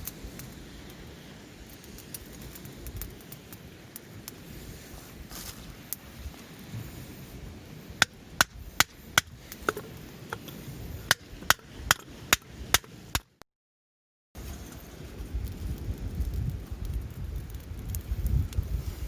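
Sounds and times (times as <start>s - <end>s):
rush of wind and fire: 0.0s - 13.4s, 14.4s - 19.0s.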